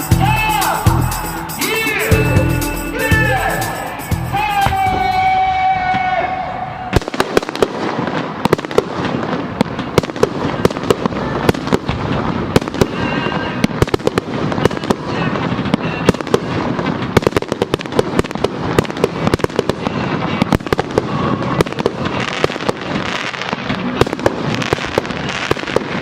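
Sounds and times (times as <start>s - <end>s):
fireworks bangs and crackling: 0.0s - 2.3s, 2.9s - 26.0s.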